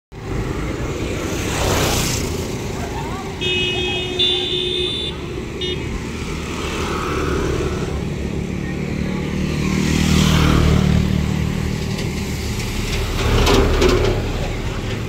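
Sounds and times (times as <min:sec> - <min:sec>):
motorcycle passing: 0:00.2 - 0:13.4.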